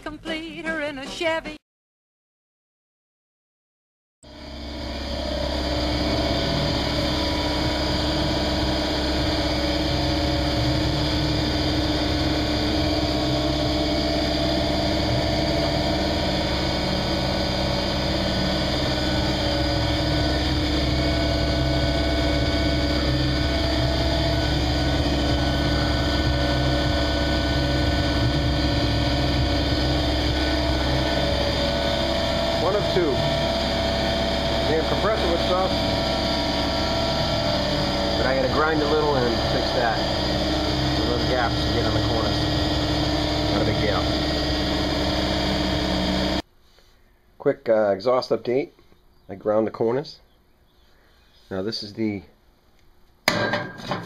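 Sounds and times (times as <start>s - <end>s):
steady mechanical hum: 4.3s - 54.0s.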